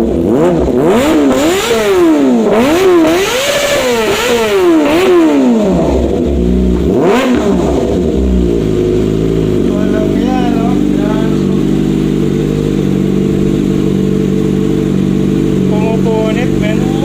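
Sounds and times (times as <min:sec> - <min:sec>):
motorcycle engine idling: 0:00.0 - 0:17.0
motorcycle engine revving: 0:00.0 - 0:17.0.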